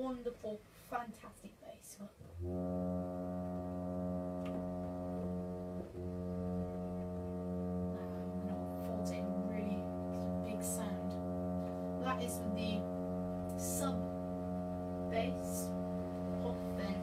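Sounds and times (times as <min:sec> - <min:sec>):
reed organ low note: 0:02.4 - 0:17.0.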